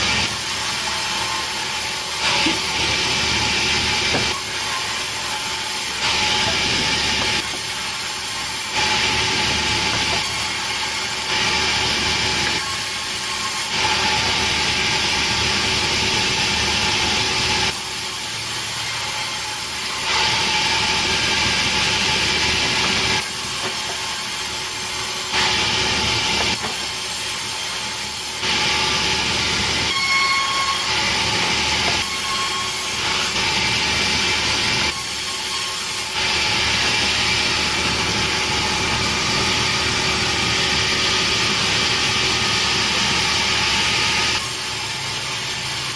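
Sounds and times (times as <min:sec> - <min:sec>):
sawmill saw cutting wood: 0:00.0 - 0:45.9.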